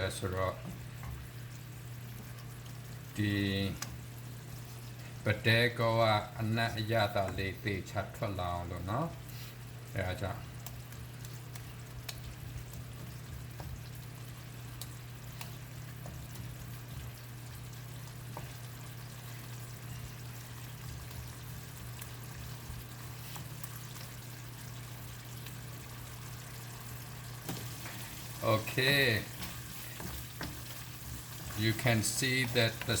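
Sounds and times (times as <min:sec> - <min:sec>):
sauce simmering and sizzling: 0:00.0 - 0:33.0.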